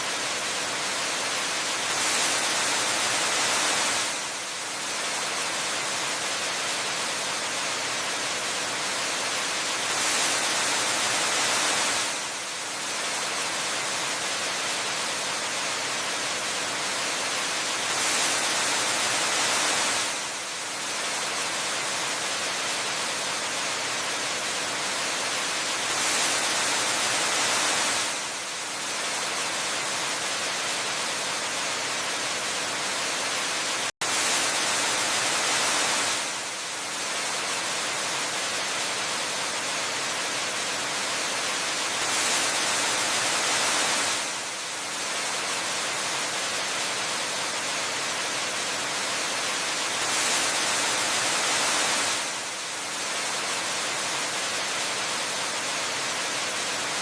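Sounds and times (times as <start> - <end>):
waterfall rushing hiss: 0.0 - 57.0.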